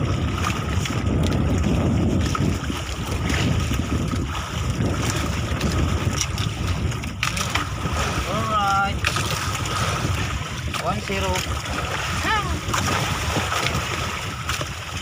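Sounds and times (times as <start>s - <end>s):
water lapping hull: 0.0s - 15.0s
wind buffeting microphone: 0.0s - 15.0s.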